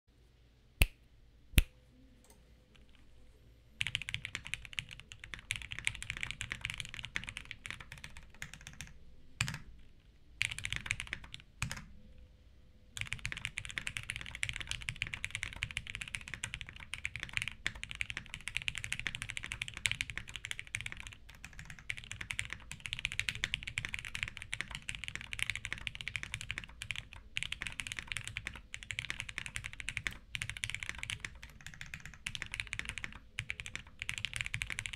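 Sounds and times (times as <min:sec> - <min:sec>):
mechanical keyboard typing: 0:03.8 - 0:09.7, 0:10.4 - 0:11.9, 0:13.0 - 0:34.9.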